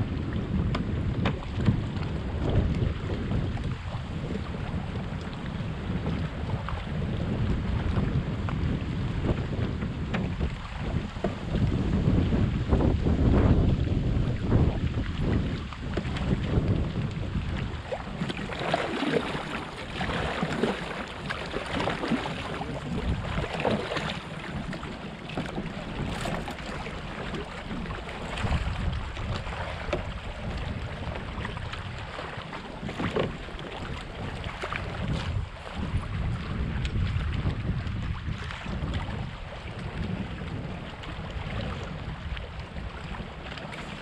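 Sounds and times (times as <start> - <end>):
water sloshing around kayak: 0.0 - 44.0
wind buffeting microphone: 0.0 - 44.0.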